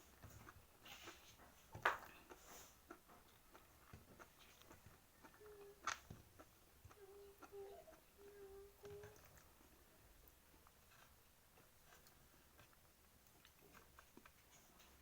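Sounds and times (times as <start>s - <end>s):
faint steady hum: 0.0s - 15.0s
chewing and biting: 0.1s - 8.0s, 10.6s - 15.0s.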